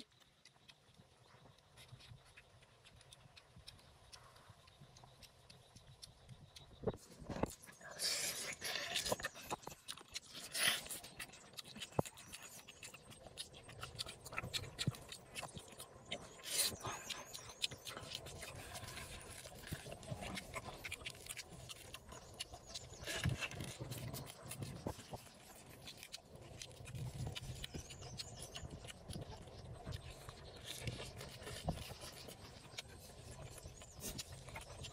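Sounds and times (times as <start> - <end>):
man chewing food: 0.0 - 34.9
wet mouth clicks: 1.6 - 32.8.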